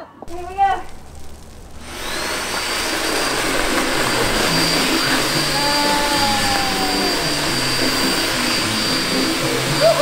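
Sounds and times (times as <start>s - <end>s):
blower motor whine: 0.3s - 10.0s
rush of air: 0.8s - 9.9s.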